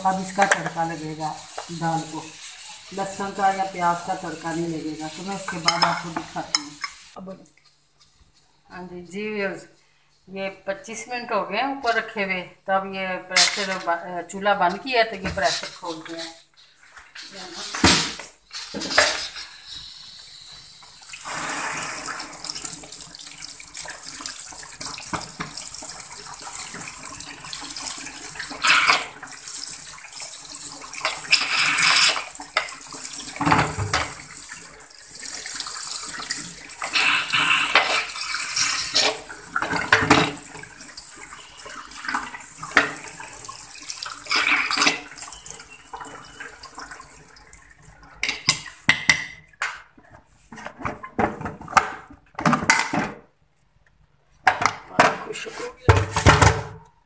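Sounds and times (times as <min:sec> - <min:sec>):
tap water pouring on metal: 0:00.0 - 0:08.5, 0:14.7 - 0:51.9.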